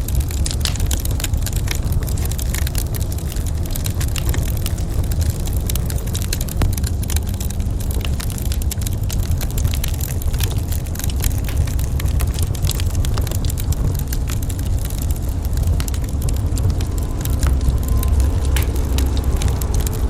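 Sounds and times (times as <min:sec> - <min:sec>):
low fire rumble: 0:00.0 - 0:20.0
wood fire pops and snaps: 0:00.0 - 0:20.0.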